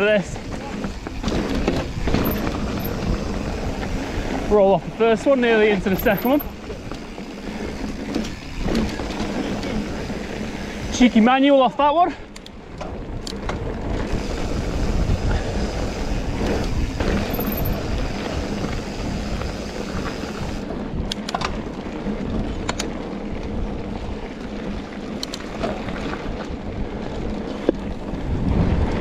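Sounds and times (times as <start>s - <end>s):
wind rushing over microphone: 0.0s - 11.2s, 12.3s - 29.0s
bike clicks and rattles: 0.0s - 29.0s
bike tyres rolling on pebbles: 0.0s - 29.0s.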